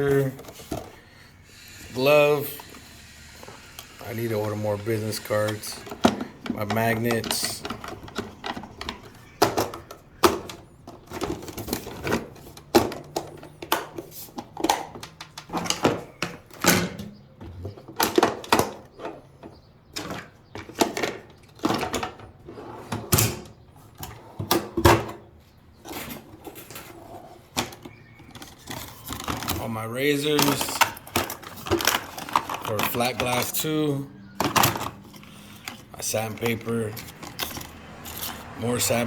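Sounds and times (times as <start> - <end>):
tools clattering in a toolbox: 3.6 - 25.2, 25.8 - 39.0.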